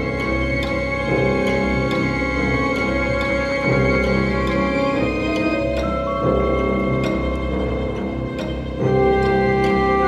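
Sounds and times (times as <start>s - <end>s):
sustained background music tones: 0.0s - 10.0s.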